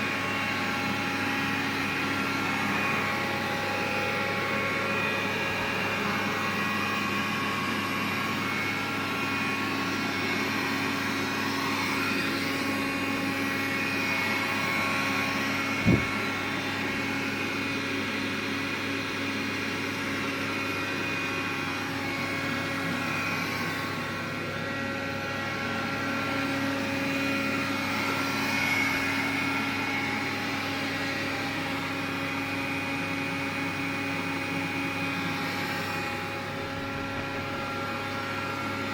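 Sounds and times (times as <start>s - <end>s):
vacuum cleaner whining: 0.0s - 38.9s.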